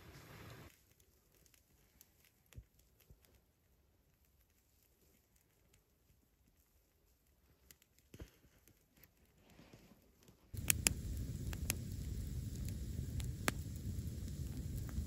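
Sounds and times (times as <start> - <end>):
wood fire crackling and popping: 0.2 - 9.4, 10.2 - 15.0.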